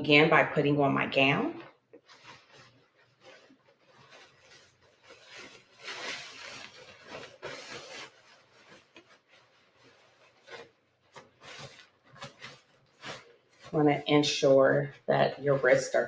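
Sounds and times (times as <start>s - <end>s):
fabric rustling: 1.6s - 16.0s.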